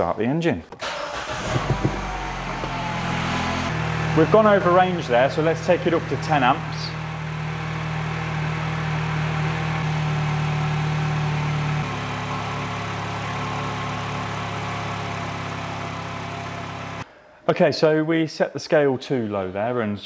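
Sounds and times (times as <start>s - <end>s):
car engine idling: 0.8s - 17.0s.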